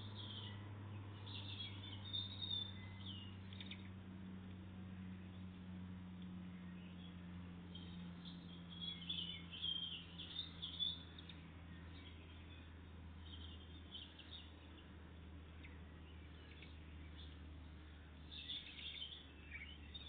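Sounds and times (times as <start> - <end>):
small songbirds chirping: 0.0 - 20.0
steady low hum: 0.0 - 20.0.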